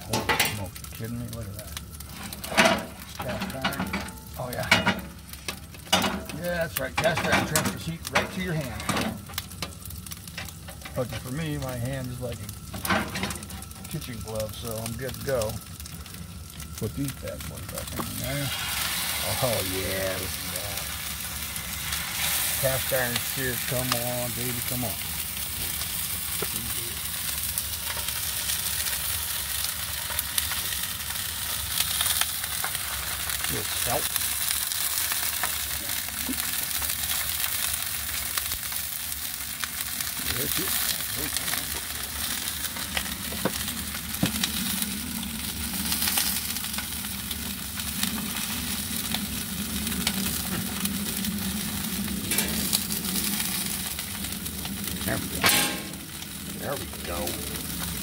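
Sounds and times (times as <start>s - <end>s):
fish sizzling in a skillet: 0.0s - 58.0s.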